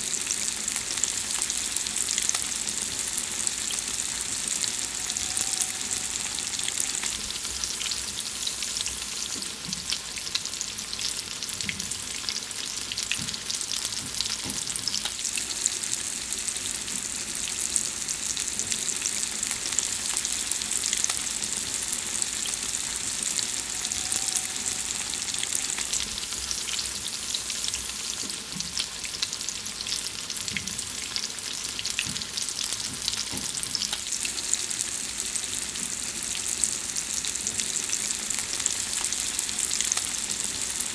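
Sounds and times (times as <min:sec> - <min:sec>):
food sizzling and crackling: 0:00.0 - 0:40.9.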